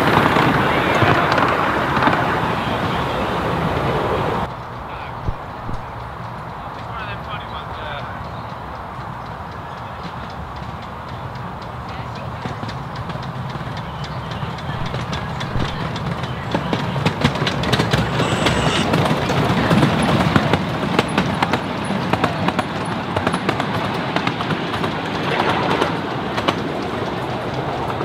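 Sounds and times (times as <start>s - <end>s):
miniature train wheels clicking: 5.5s - 28.0s.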